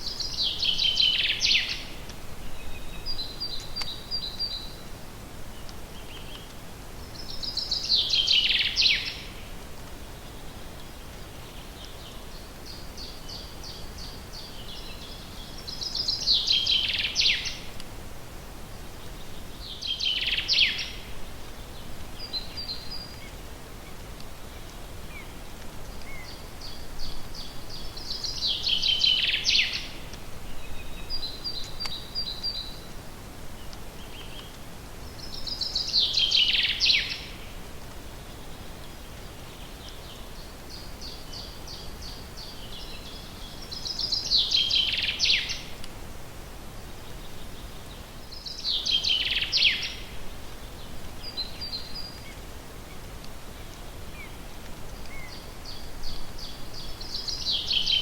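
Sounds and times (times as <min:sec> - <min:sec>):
faint steady hiss: 0:00.0 - 0:58.0
songbird singing: 0:00.0 - 0:58.0.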